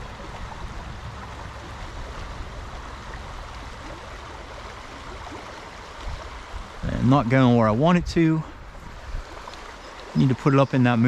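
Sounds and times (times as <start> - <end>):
stream rushing over riffle: 0.0 - 11.0.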